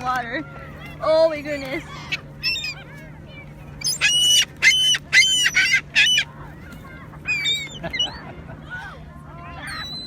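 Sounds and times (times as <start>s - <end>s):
seagulls calling: 0.0s - 10.0s.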